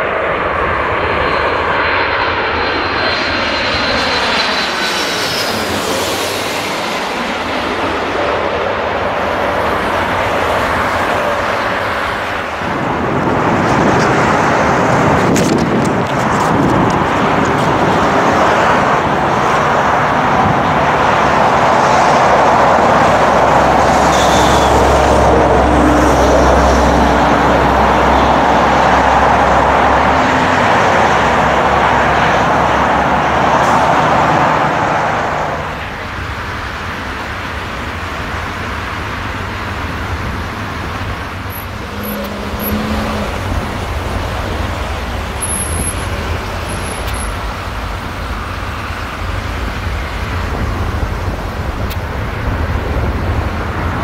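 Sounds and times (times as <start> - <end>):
distant jet rumble: 0.0 - 54.0
jet engines roaring: 0.0 - 54.0.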